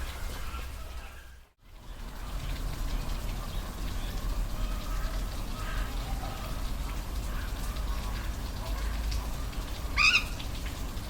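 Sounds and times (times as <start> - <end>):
waterfall rushing with low rumble: 0.0 - 11.0.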